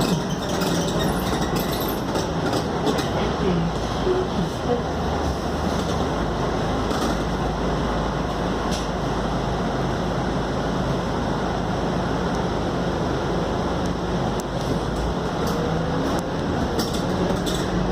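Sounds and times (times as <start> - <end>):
bus engine drone: 0.0 - 17.9
road and cabin noise: 0.0 - 17.9.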